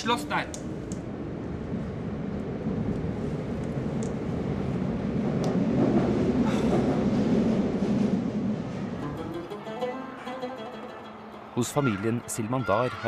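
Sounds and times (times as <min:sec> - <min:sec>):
metro train rumbling: 0:00.0 - 0:11.6.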